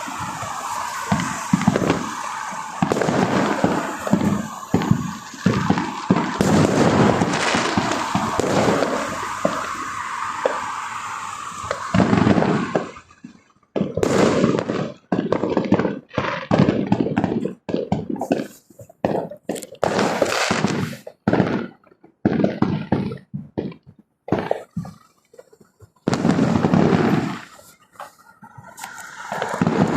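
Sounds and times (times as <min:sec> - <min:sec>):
fireworks hissing: 0:00.0 - 0:23.7, 0:24.3 - 0:29.9
fireworks bangs and crackling: 0:00.0 - 0:29.9.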